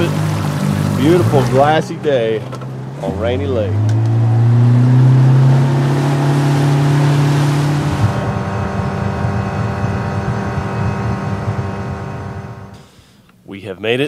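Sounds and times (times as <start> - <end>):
outboard motor running: 0.0 - 12.9.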